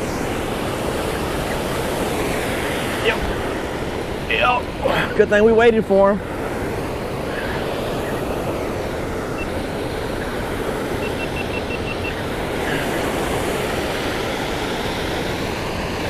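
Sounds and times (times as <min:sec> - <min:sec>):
river water rushing over dam: 0:00.0 - 0:16.0.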